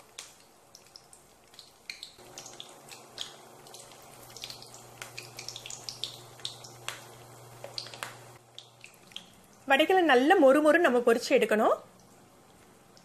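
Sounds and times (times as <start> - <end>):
deep-frying sizzle with pops: 0.0 - 13.0
low steady hum: 0.1 - 13.0.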